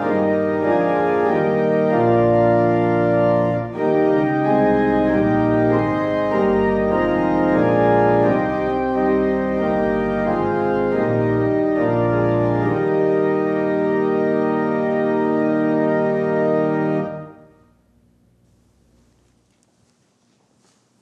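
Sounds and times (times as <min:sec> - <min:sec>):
pipe organ playing hymn chords: 0:00.0 - 0:17.6.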